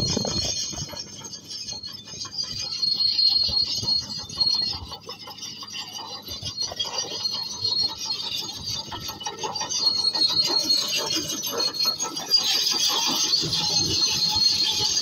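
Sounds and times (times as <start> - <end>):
bulldozer working: 0.0 - 15.0
high metallic squeal: 0.0 - 15.0
rough grinding of tracks: 0.0 - 15.0.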